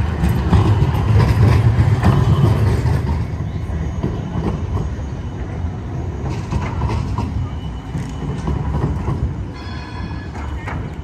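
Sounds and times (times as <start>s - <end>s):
high wheel squeal: 0.0s - 11.0s
tram rumbling: 0.0s - 11.0s
wheels clicking over rail joints: 0.0s - 11.0s.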